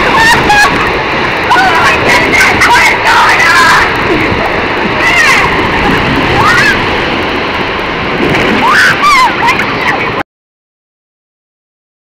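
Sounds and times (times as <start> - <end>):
water rushing through waterslide: 0.0 - 10.2.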